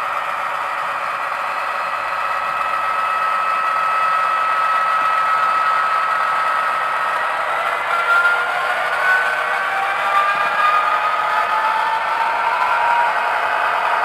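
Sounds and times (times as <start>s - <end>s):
model train engine sound from speaker: 0.0s - 14.0s
steady whine: 0.0s - 14.0s.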